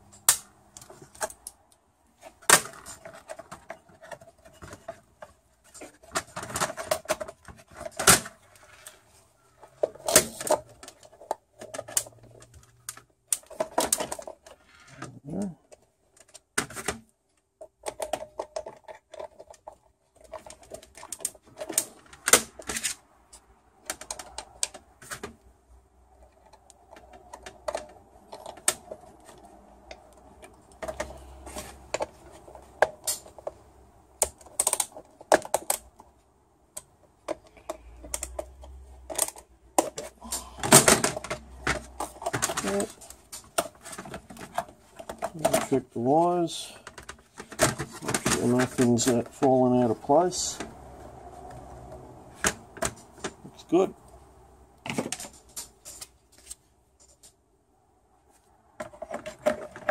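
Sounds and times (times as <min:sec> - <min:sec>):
plastic parts knocking: 0:00.2 - 0:23.0, 0:23.8 - 0:25.5, 0:26.2 - 0:33.6, 0:34.2 - 0:50.8, 0:54.8 - 0:56.1, 0:58.8 - 0:59.9.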